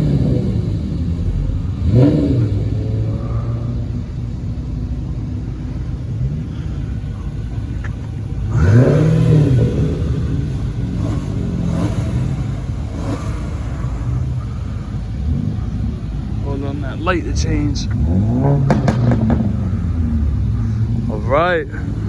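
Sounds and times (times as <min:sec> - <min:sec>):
car engines droning: 0:00.0 - 0:22.0
engine revving: 0:00.0 - 0:22.0.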